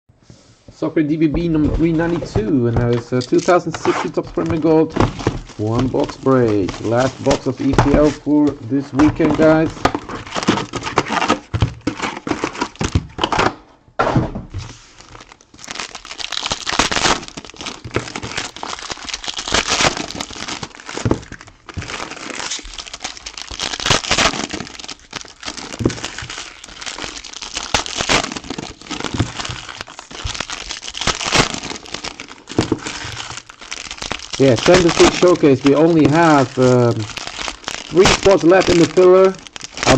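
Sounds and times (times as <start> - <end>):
plastic wrapping crinkling and tearing: 1.2 - 13.5, 14.6 - 39.9.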